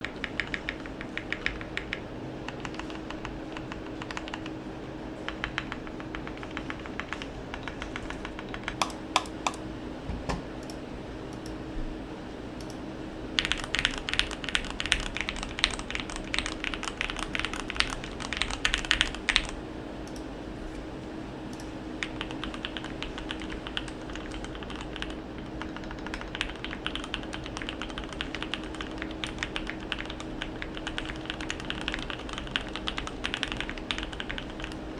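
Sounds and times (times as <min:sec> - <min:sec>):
mechanical keyboard typing: 0:00.0 - 0:04.5, 0:05.3 - 0:09.6, 0:13.4 - 0:20.2, 0:21.6 - 0:34.9.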